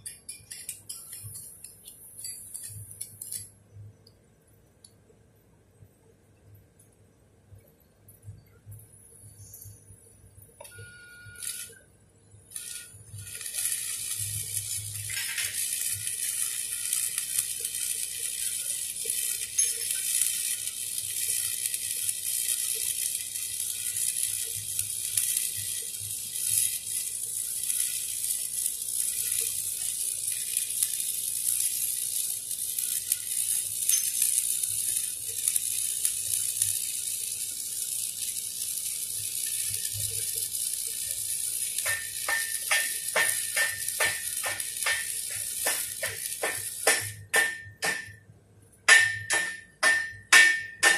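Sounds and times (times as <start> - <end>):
welding arc crackling and hissing: 0.0 - 3.8, 8.3 - 48.2, 48.8 - 50.9.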